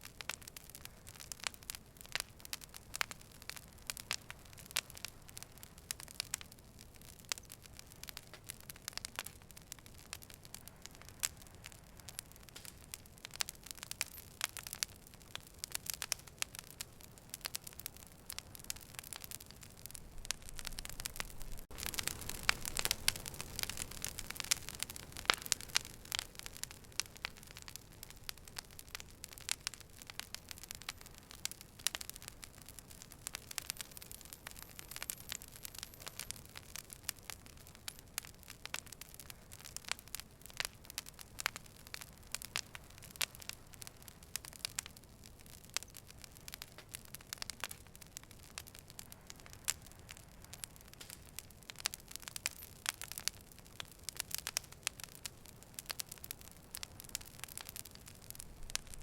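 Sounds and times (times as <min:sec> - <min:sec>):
fire crackling and popping: 0:00.0 - 0:59.0
low steady hiss: 0:00.0 - 0:59.0.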